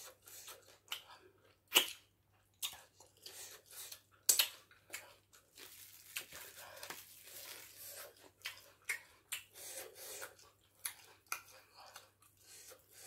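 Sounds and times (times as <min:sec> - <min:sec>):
wet eating and chewing: 0:00.0 - 0:13.0.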